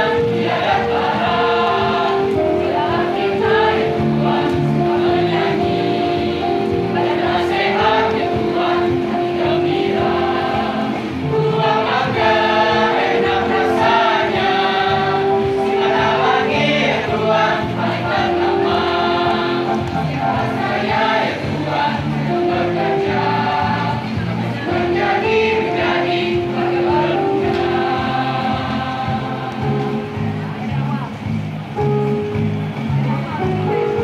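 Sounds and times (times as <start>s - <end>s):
children's choir singing: 0.0s - 30.9s.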